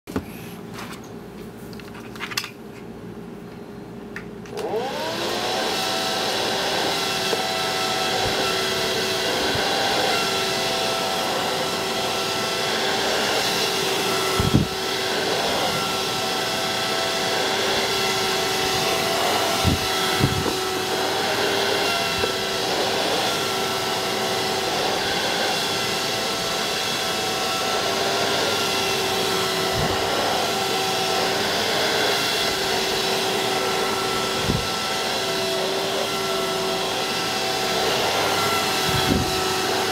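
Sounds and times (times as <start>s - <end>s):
fan whining: 0.1s - 39.9s.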